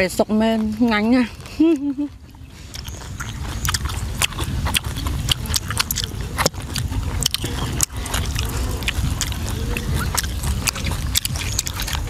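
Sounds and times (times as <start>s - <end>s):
steady low rumble: 0.0s - 12.0s
wet chewing and mouth clicks: 0.0s - 12.0s.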